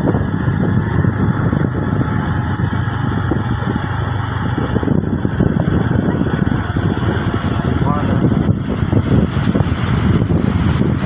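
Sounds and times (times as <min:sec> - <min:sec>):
vehicle engine running: 0:00.0 - 0:11.0
wind rumbling on microphone: 0:00.0 - 0:11.0.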